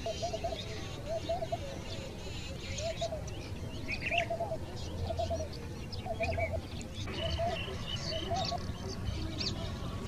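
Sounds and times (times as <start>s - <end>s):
high bird chirps and trills: 0.0s - 10.0s
low warbling bird call: 0.0s - 10.0s.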